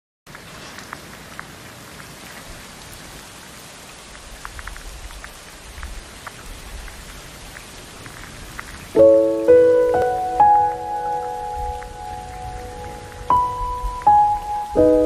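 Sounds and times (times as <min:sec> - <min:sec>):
steady rain hiss: 0:00.3 - 0:15.0.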